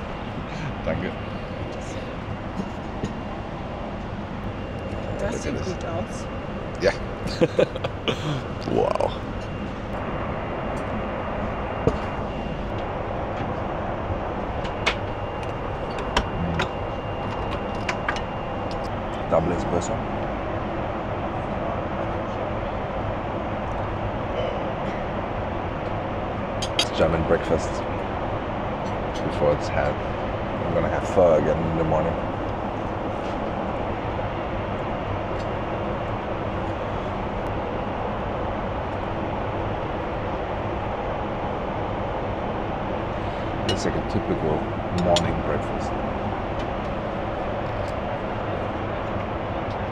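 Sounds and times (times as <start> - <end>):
airplane cabin engine noise: 0.0 - 49.9
low hum: 0.0 - 49.9.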